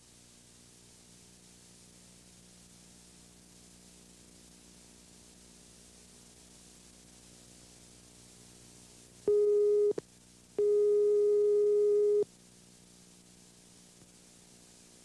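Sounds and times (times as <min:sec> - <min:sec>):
faint tape hiss: 0:00.0 - 0:15.0.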